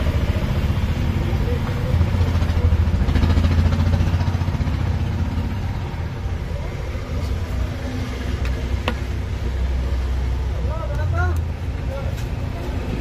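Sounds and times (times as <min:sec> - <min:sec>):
road traffic engine hum: 0:00.0 - 0:13.0.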